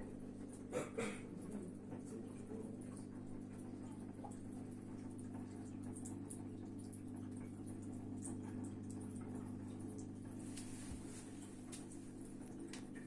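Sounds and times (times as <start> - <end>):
water dripping and trickling: 1.3 - 13.0.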